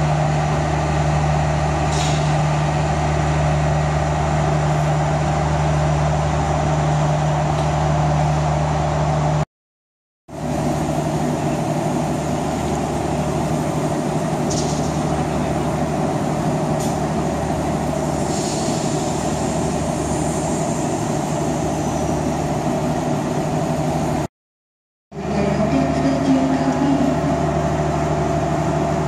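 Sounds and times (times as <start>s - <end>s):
train engine humming: 0.0s - 9.4s, 10.3s - 24.3s, 25.1s - 29.0s.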